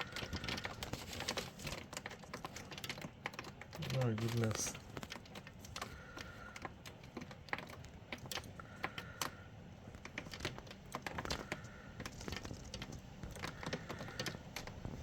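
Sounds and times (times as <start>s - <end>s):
hailstones striking hard surfaces: 0.0s - 9.3s, 10.0s - 15.0s.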